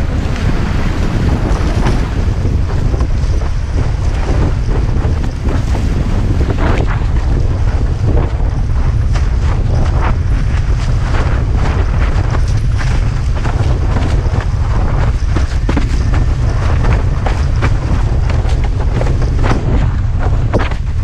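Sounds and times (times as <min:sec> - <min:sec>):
board splashing through water: 0:00.0 - 0:21.0
wind rumble on microphone: 0:00.0 - 0:21.0.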